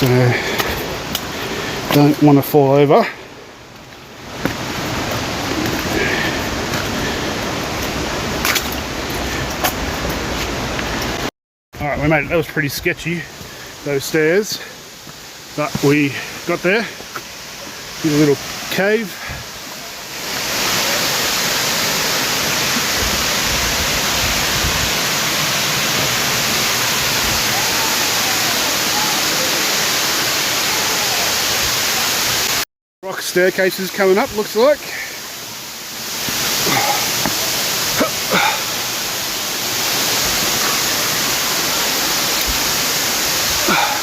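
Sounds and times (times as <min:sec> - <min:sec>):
waterfall rushing: 0:00.0 - 0:32.6, 0:33.2 - 0:44.0.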